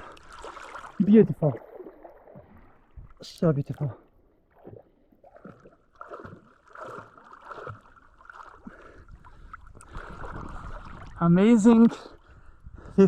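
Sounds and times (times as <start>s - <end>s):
lake water sloshing and splashing: 0.0s - 13.0s
soft swishes in water: 0.0s - 13.0s.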